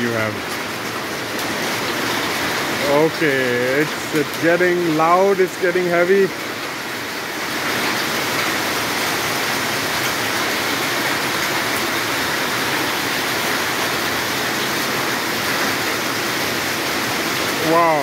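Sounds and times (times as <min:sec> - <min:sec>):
hailstones pelting roofs: 0:00.0 - 0:18.0.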